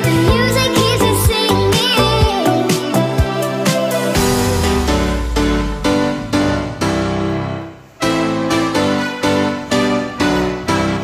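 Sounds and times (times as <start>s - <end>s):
keyboard chords music: 0.0s - 11.0s.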